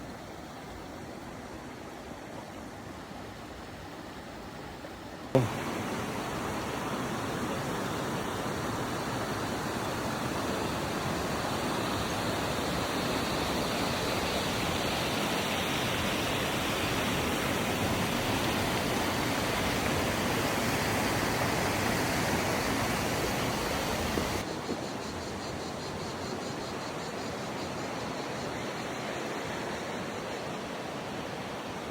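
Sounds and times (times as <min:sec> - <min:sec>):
river water rushing: 0:00.0 - 0:24.6, 0:28.5 - 0:31.9.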